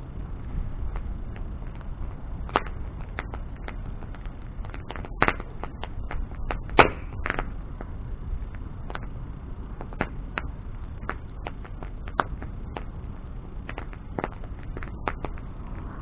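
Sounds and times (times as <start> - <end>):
bonfire crackling and popping: 0.0 - 16.0
low rumble of flames: 0.0 - 16.0.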